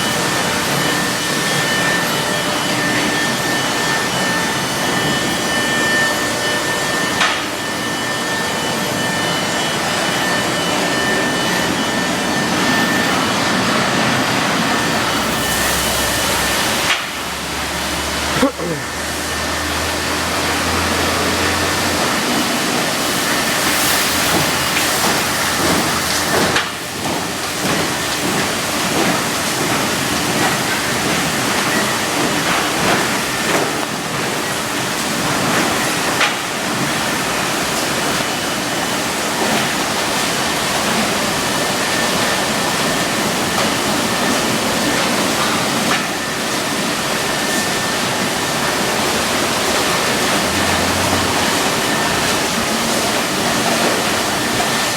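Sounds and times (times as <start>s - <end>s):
car wash spraying water: 0.0s - 54.9s.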